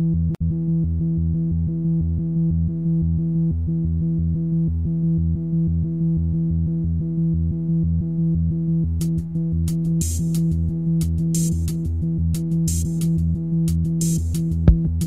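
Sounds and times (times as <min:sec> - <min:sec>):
synthesizer music with pulsing bass: 0:00.0 - 0:15.0.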